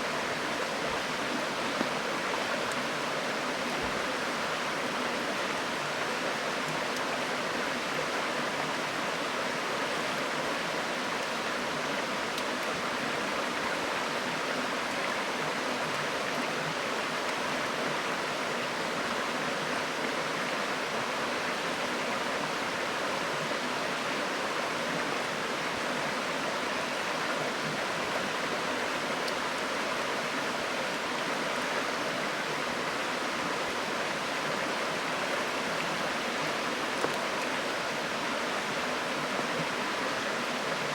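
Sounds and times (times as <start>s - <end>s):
river water flowing over stones: 0.0s - 40.9s.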